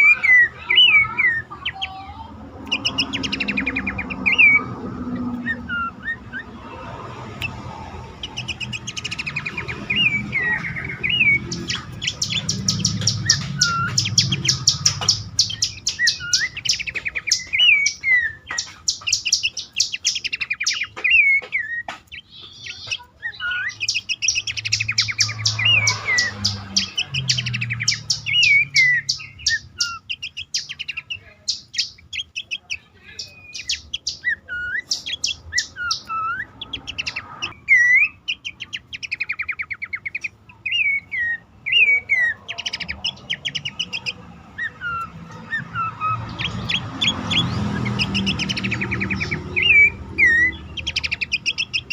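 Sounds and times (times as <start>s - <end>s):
bird chattering and whistling: 0.0s - 51.9s.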